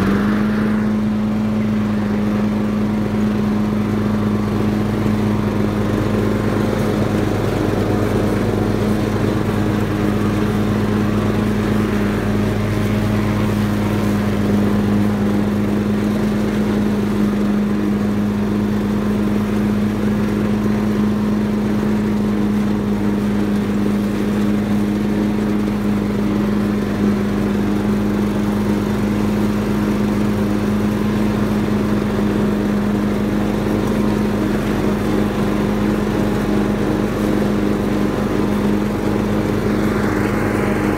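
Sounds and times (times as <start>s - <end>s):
lawnmower engine drone: 0.0s - 40.9s.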